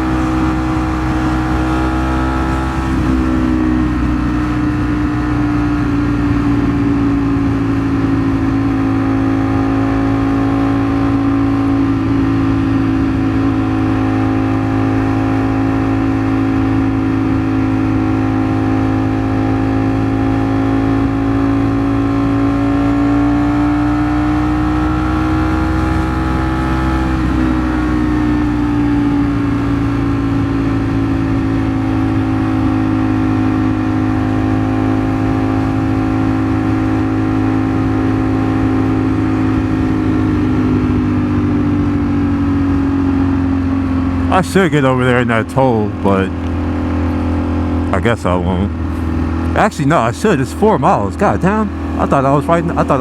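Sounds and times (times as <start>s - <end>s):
motorcycle engine cruising: 0.0s - 53.0s.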